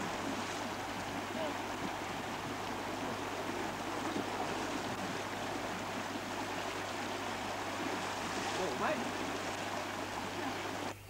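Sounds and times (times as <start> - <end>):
river rushing over rocks: 0.0 - 10.9.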